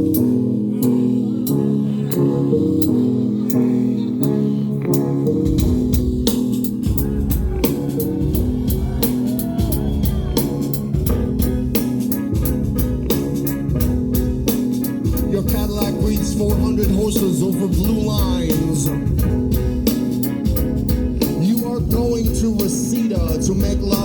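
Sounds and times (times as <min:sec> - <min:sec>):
deep bass: 0:00.0 - 0:24.0
drum kit beat: 0:00.0 - 0:24.0
guitar: 0:00.0 - 0:24.0.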